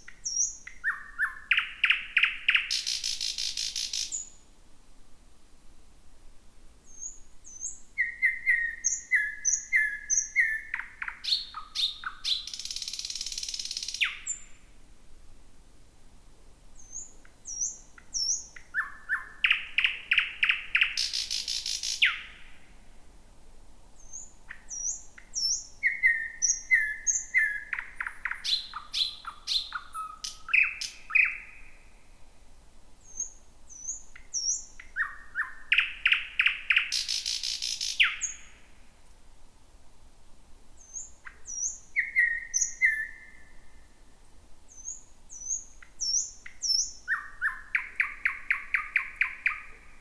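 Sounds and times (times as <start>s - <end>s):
thrush nightingale singing: 0.0s - 4.4s, 6.8s - 14.7s, 16.8s - 22.6s, 24.0s - 32.2s, 33.0s - 38.7s, 40.8s - 44.0s, 44.7s - 50.0s.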